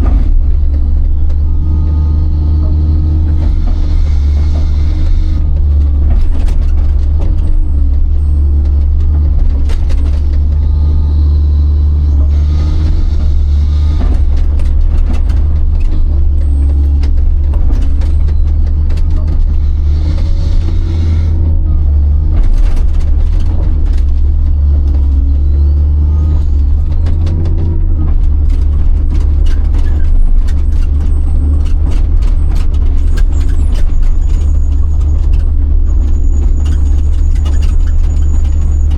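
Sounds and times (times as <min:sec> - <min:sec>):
excavator diesel engine rumbling: 0:00.0 - 0:38.9
machine clanks and knocks: 0:00.0 - 0:38.9.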